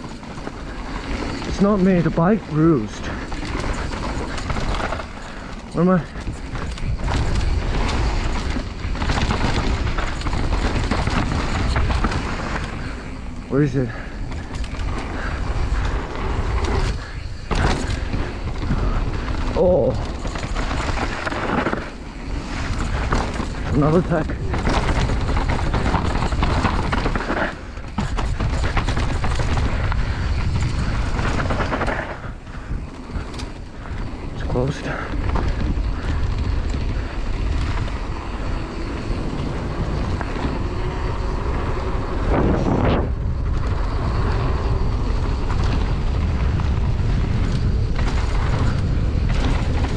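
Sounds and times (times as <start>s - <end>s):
bike rattling and knocking: 0.0s - 49.9s
wind and tyres rumbling: 0.0s - 49.9s.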